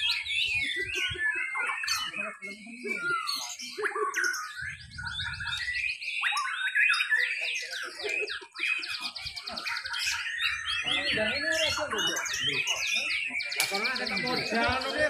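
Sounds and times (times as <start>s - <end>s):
birds singing whistled song: 0.0s - 15.0s.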